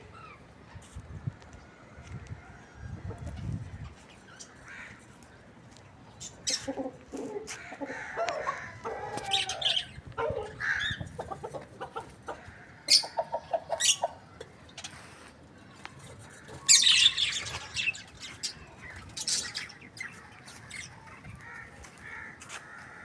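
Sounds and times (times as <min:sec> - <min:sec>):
chickens clucking: 0:02.0 - 0:04.6, 0:06.2 - 0:22.6.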